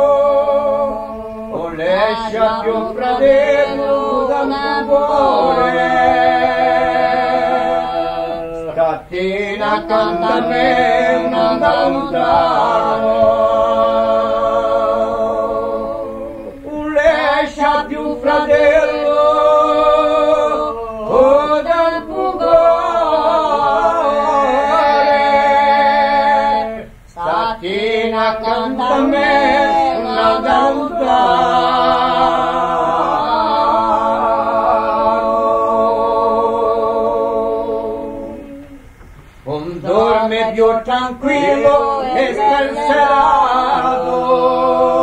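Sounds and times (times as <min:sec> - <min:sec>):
male voices singing in harmony: 0:00.0 - 0:45.0.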